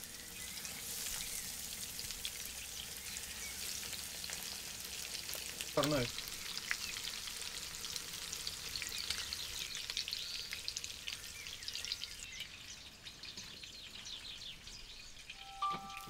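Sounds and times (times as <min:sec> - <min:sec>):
fish frying in hot oil: 0:00.0 - 0:15.3.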